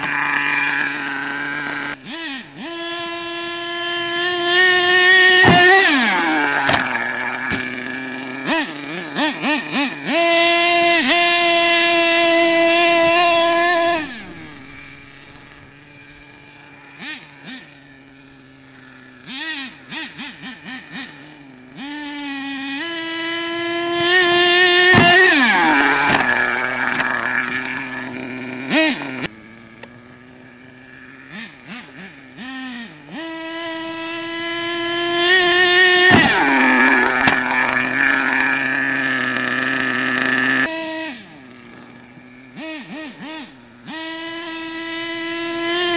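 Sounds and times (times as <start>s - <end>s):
small nitro engine revving: 0.0s - 45.9s.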